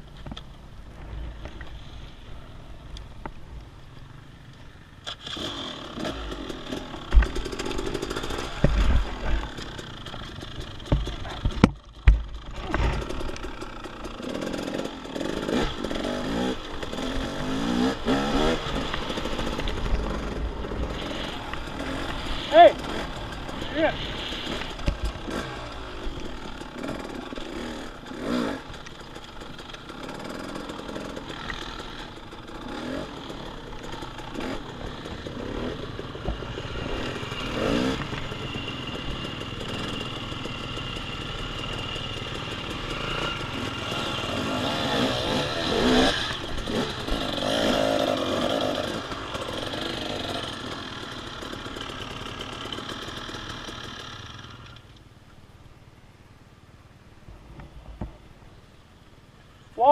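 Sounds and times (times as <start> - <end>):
dirt bike engine revving: 4.8 - 54.8.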